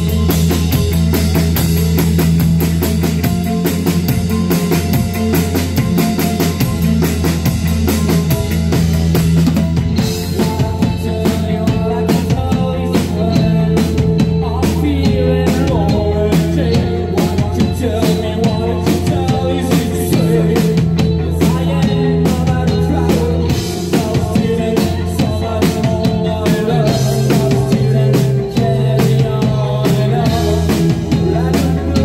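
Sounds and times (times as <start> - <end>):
drum kit beat: 0.0 - 32.0
electric bass guitar: 0.0 - 32.0
keyboard: 0.0 - 32.0.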